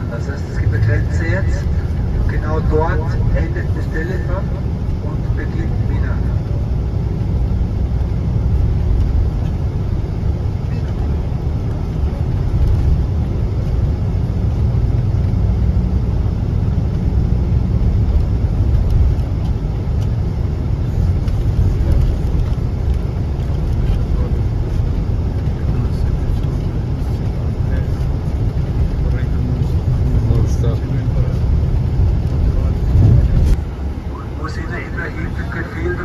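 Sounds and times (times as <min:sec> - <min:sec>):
engine and road noise in cabin: 0:00.0 - 0:36.0.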